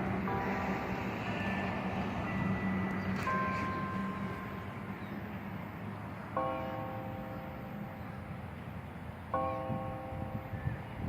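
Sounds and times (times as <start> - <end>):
church bells ringing: 0.0 - 11.0.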